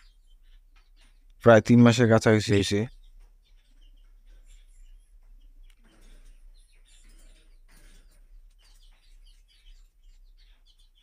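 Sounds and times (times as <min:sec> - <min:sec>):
budgerigars chirping: 0:00.0 - 0:11.0.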